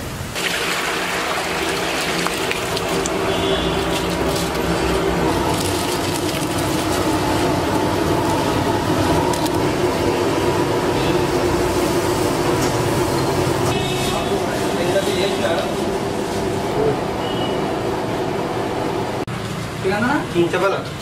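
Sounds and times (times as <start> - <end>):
water boiling hard: 0.0 - 17.3.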